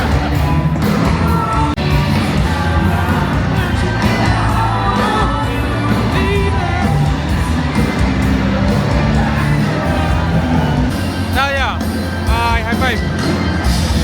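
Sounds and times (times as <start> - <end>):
pop music with singing: 0.0 - 14.0.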